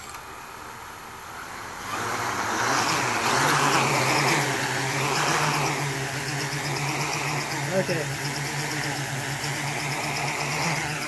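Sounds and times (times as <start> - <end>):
drone motors buzzing: 0.0 - 11.0.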